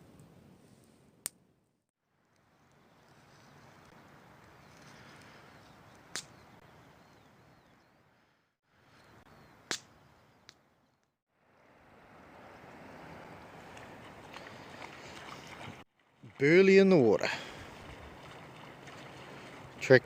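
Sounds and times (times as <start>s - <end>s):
faint outdoor noise: 0.0s - 20.0s.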